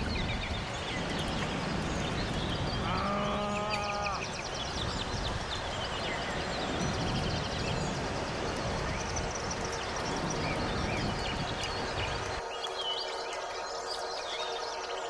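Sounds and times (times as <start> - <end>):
waterfall roaring: 0.0 - 12.4
songbirds trilling and chirping: 0.0 - 15.0.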